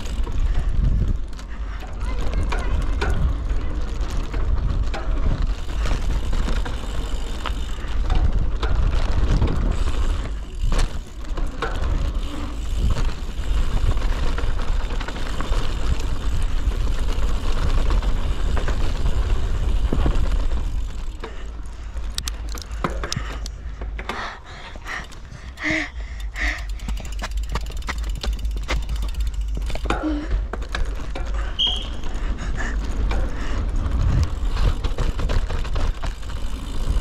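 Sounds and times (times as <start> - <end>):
bike rattles and clicks: 0.0 - 37.0
mountain bike rumbling on dirt trail: 0.0 - 37.0.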